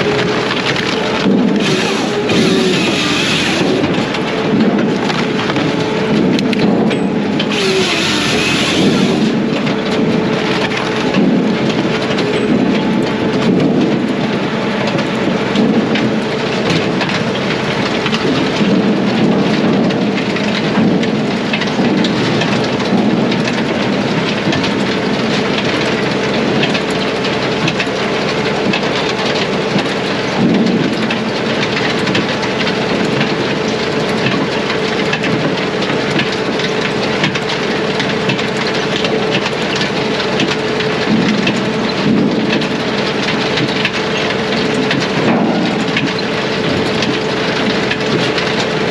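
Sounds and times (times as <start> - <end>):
diesel firewood processor running: 0.0 - 48.9.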